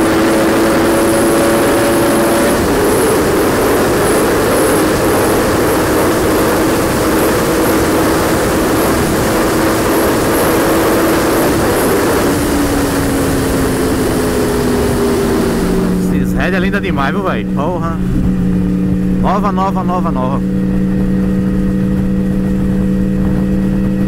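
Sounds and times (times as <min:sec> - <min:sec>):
motorcycle engine at high revs: 0:00.0 - 0:24.0
wind noise rushing: 0:00.0 - 0:24.0.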